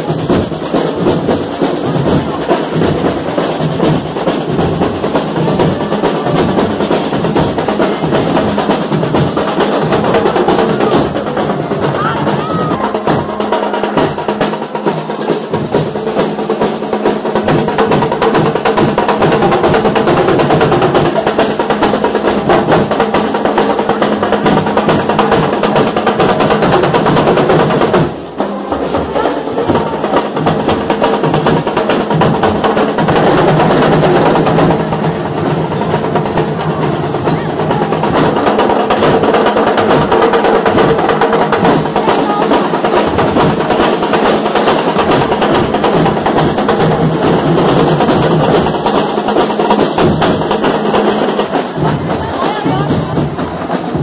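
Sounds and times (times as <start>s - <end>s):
marching drums playing: 0.0s - 54.0s.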